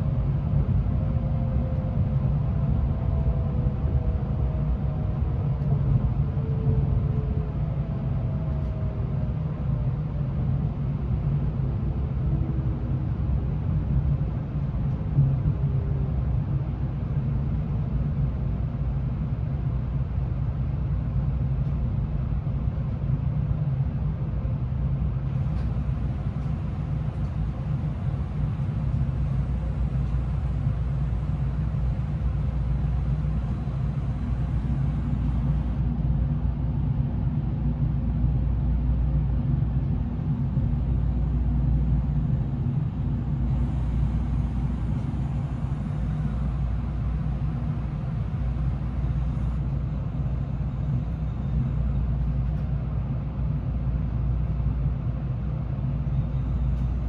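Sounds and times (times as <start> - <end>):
train interior rumble: 0.0 - 57.0.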